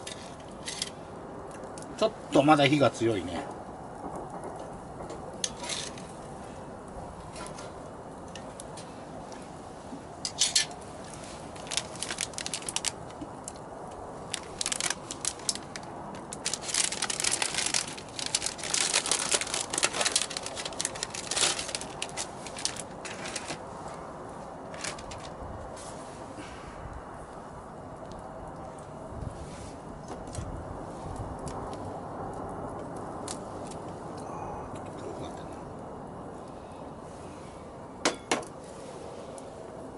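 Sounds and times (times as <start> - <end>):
wood fire crackling and popping: 0.0 - 36.6.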